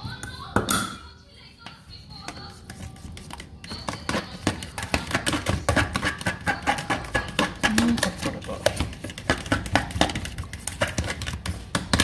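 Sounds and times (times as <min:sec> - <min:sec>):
fork whisking in plastic container: 0:01.6 - 0:12.0.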